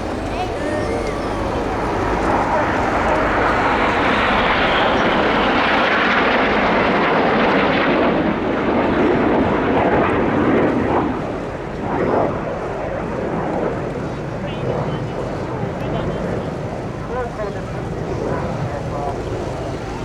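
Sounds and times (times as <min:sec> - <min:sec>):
jets passing overhead: 0:00.0 - 0:20.0.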